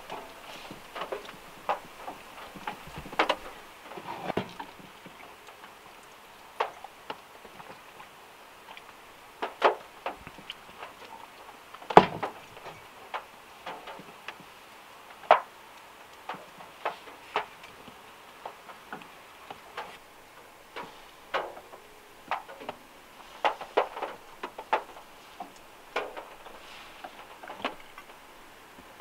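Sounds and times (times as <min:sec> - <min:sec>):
gentle rain hiss: 0:00.0 - 0:29.0
water drips tapping car roof: 0:00.0 - 0:29.0.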